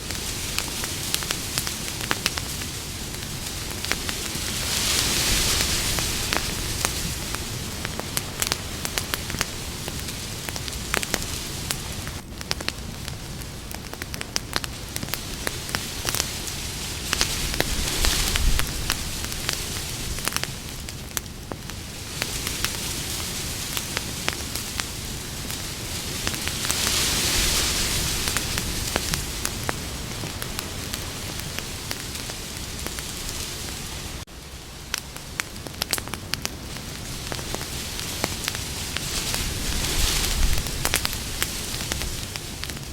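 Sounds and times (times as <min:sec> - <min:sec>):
campfire crackling and popping: 0:00.0 - 0:42.9
fire hissing: 0:00.0 - 0:42.9.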